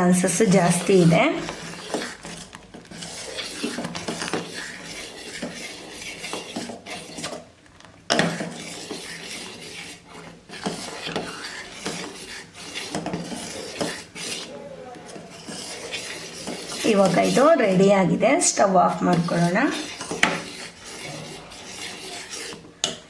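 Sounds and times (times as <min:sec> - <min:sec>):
spoon scraping a pot: 0:00.0 - 0:07.5, 0:08.1 - 0:23.0.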